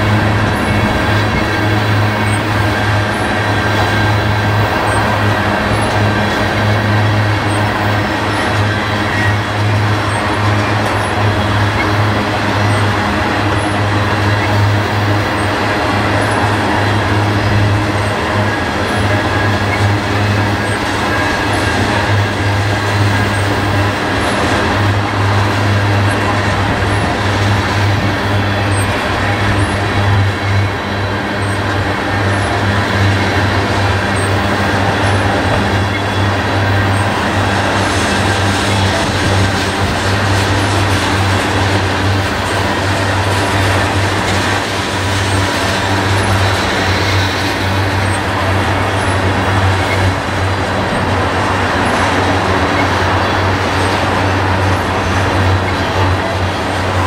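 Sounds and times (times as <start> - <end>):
freight train wheels rumbling on track: 0.0 - 57.0.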